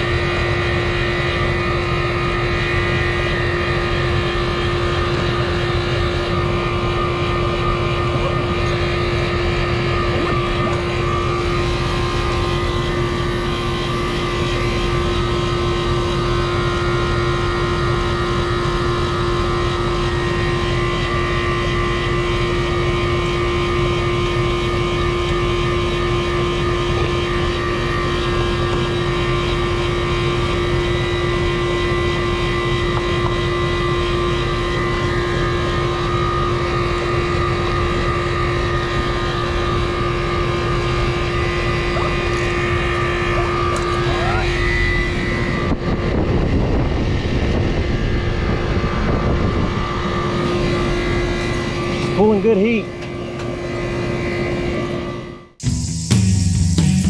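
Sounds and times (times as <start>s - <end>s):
air conditioner condenser humming: 0.0s - 57.0s.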